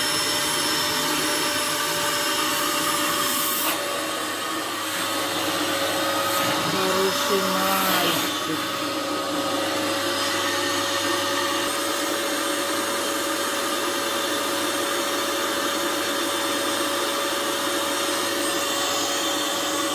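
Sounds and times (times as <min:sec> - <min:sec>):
vacuum cleaner running: 0:00.0 - 0:19.9.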